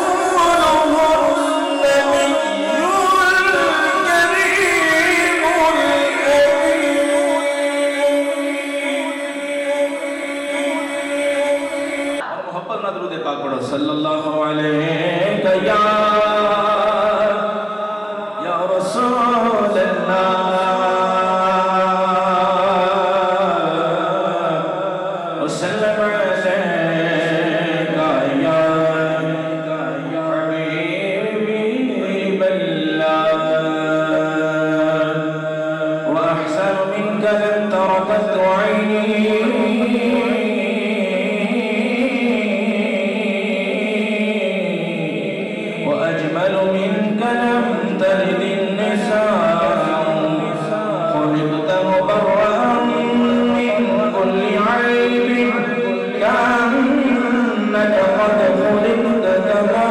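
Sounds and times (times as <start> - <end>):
man singing unaccompanied: 0.0 - 12.3, 13.6 - 59.9.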